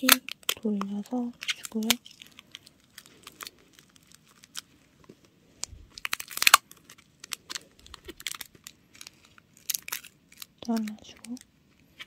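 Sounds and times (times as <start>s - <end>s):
tape and paper crinkling: 0.0s - 12.0s.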